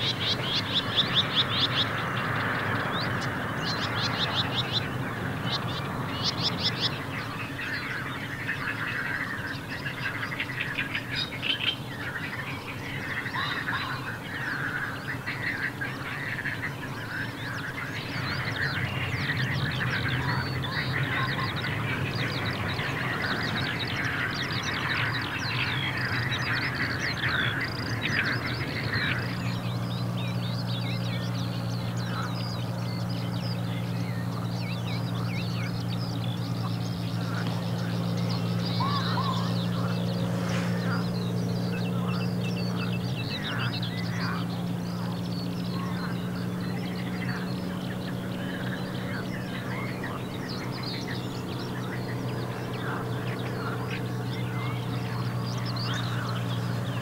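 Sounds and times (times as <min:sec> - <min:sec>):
many birds singing and calling: 0:00.0 - 0:57.0
steady low hum: 0:00.0 - 0:57.0.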